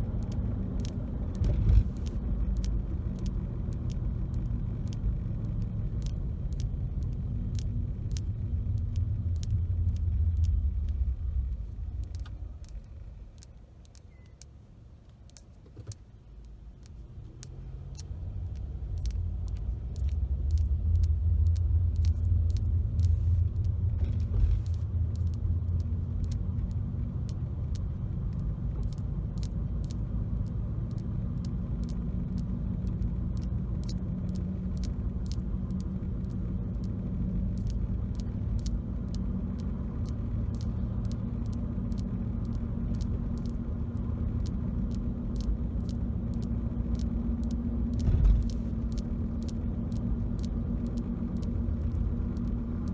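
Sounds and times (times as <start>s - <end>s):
car engine rumble: 0.0s - 52.9s
quick light clicks: 0.1s - 52.9s.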